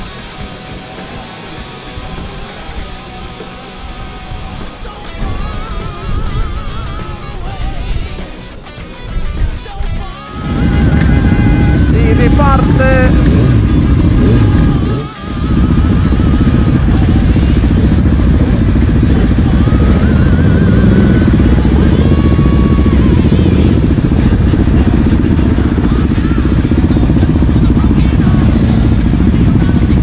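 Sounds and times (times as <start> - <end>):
motorcycle engines running: 0.0 - 30.0.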